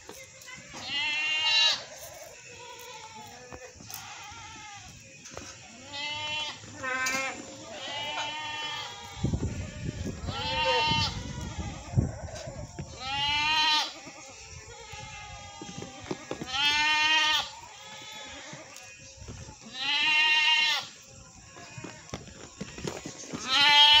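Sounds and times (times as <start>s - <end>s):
goat bleating: 0.2s - 22.2s, 23.4s - 24.0s.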